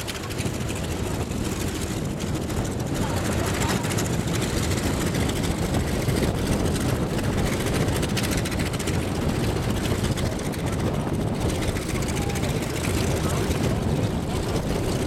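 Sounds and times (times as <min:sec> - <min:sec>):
propeller plane engines droning: 0:00.0 - 0:15.0.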